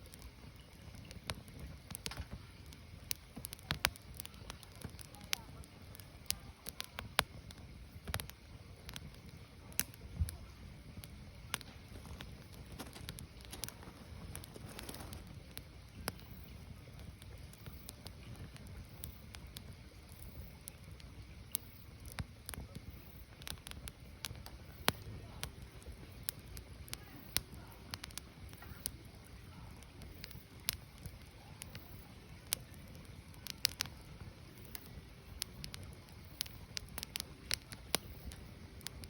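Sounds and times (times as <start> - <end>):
firewood crackling and popping: 0.0 - 39.0
low rumble of fire: 0.0 - 39.0.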